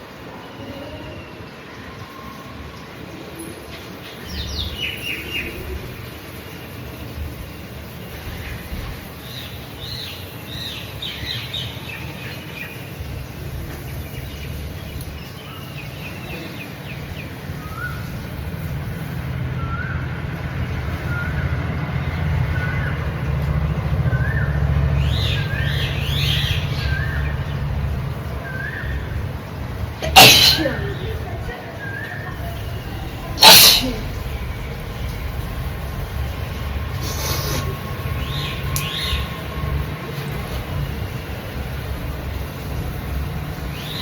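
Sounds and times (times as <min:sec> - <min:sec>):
birds chirping: 0:04.0 - 0:19.0, 0:19.6 - 0:39.8.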